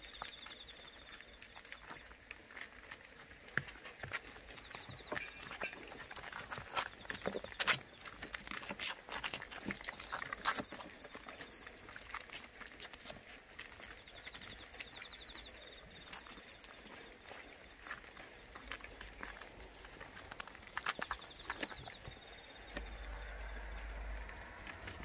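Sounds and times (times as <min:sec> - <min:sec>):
puppies suckling wet clicks: 0:00.0 - 0:25.0.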